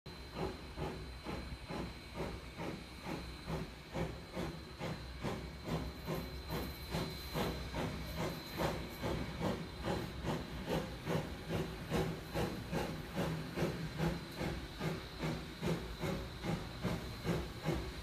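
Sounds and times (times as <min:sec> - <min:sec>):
steam hissing: 0:00.1 - 0:18.0
steam locomotive chuffing: 0:00.1 - 0:18.0.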